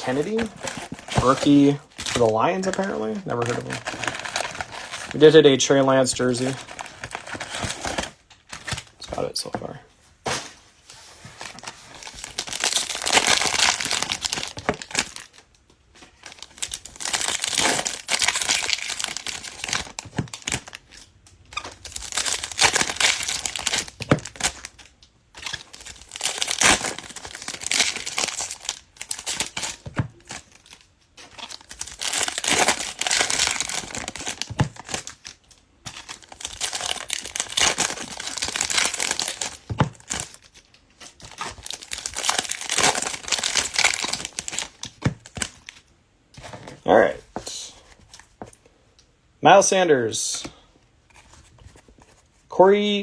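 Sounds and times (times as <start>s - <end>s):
foil wrappers tearing and crinkling: 0.0s - 8.9s, 11.5s - 15.4s, 16.1s - 45.9s.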